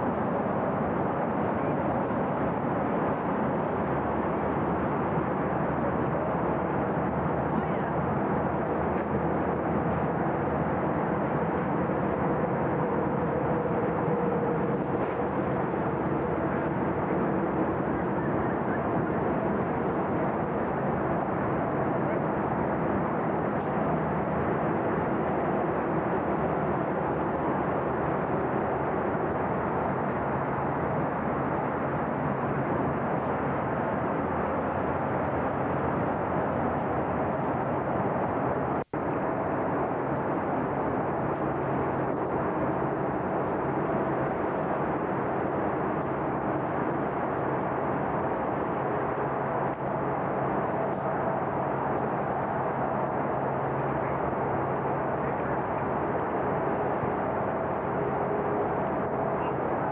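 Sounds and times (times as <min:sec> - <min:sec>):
boat engine and wind drone: 0:00.0 - 0:59.9
faint hum: 0:00.0 - 0:59.9.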